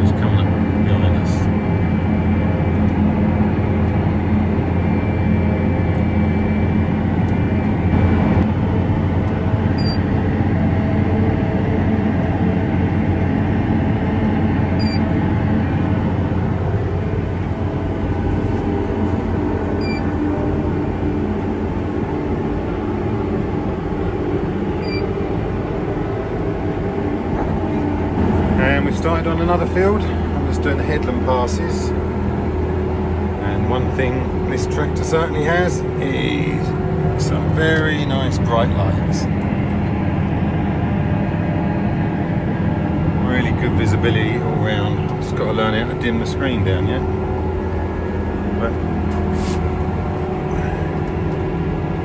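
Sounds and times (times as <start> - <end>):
tractor engine drone in cab: 0.0 - 52.0.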